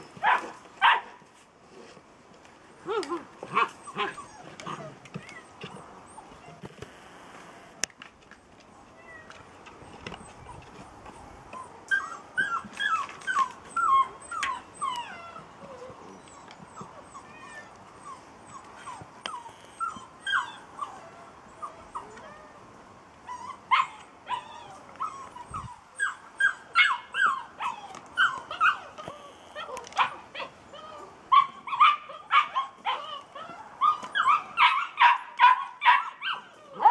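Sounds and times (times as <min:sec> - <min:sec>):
puppies yipping and whining: 0:02.8 - 0:06.6, 0:08.4 - 0:22.7, 0:23.3 - 0:36.9.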